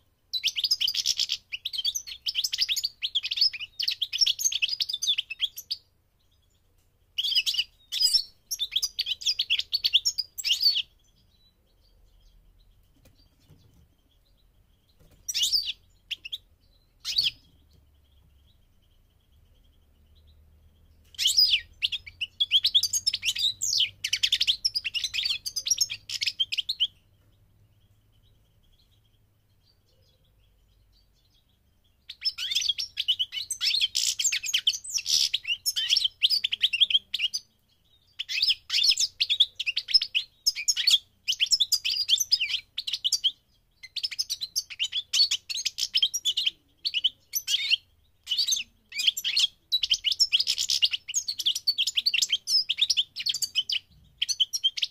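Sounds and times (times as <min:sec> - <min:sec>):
goldfinch twittering song: 0:00.0 - 0:54.9.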